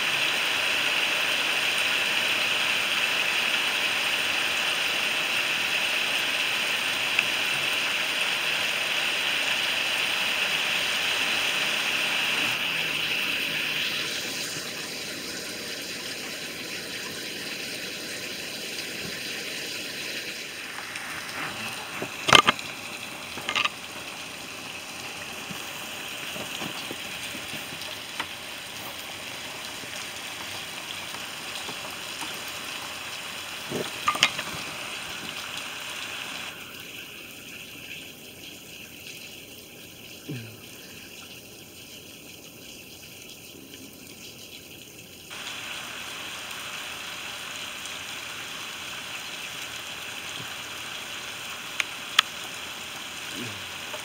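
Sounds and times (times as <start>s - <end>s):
heavy rain pouring: 0.0s - 37.1s, 45.3s - 54.0s.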